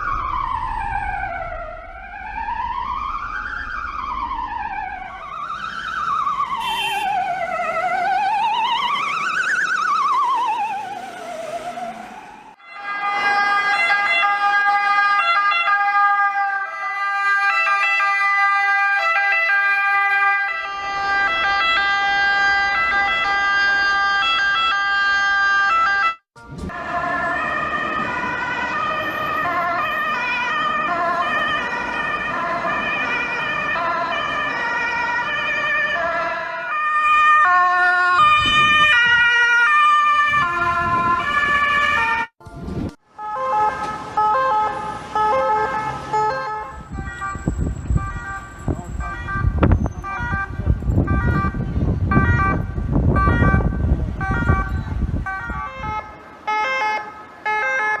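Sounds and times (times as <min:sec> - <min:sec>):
ambulance siren: 0:00.0 - 0:58.0.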